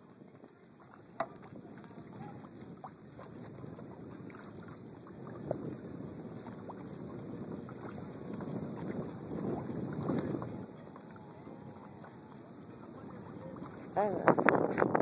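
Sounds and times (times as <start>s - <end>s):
water lapping around canoe: 0.0s - 15.0s.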